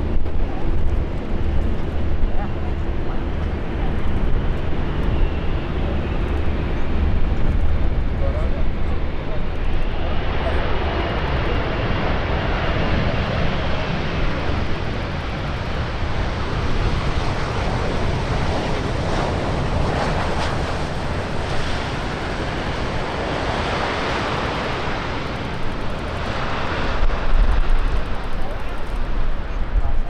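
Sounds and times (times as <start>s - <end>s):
jet engine noise: 0.0s - 30.0s
wind noise on microphone: 0.0s - 30.0s.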